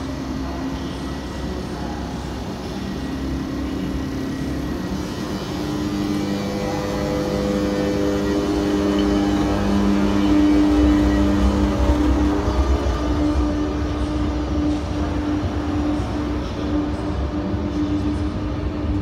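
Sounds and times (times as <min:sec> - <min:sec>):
train mechanical hum: 0:00.0 - 0:19.0.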